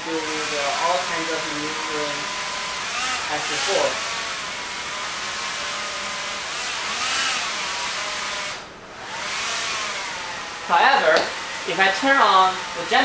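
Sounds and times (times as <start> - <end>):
electric propellers whirring: 0.0 - 13.0.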